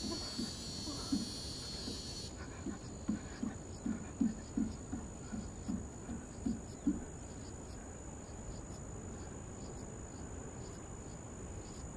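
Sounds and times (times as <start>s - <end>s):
high cricket trill: 0.0s - 11.9s.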